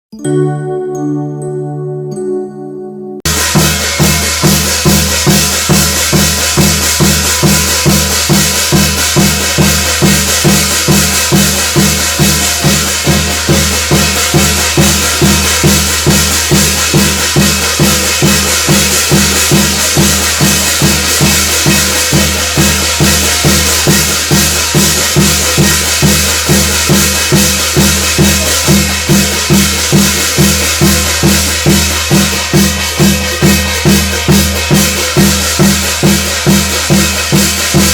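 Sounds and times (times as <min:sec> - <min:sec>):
bright metallic wash: 0:00.2 - 0:37.9
drums beating steady rhythm: 0:03.2 - 0:37.9.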